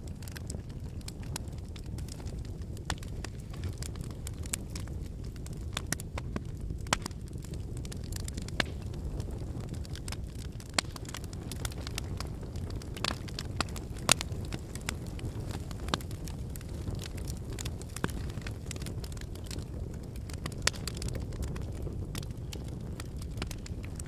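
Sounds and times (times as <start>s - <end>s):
firewood crackling and popping: 0.0s - 24.0s
low fire rumble: 0.0s - 24.0s.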